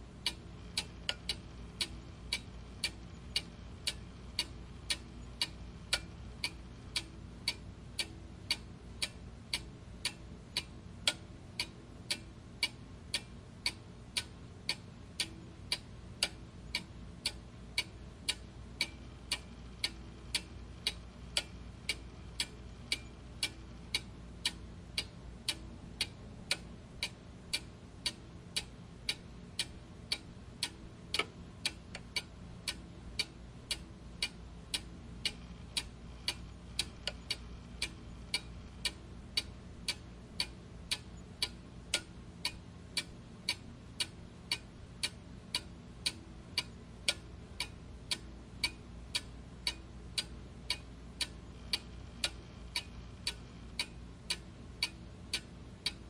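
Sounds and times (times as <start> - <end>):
faint low hum: 0.0 - 56.0
clock ticking: 0.2 - 56.0.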